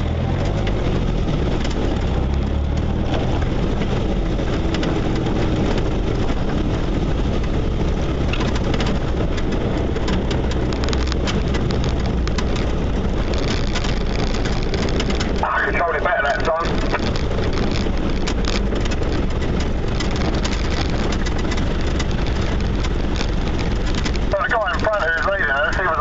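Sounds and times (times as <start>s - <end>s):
low engine drone: 0.0s - 26.0s
vehicle rattles and knocks: 0.0s - 26.0s.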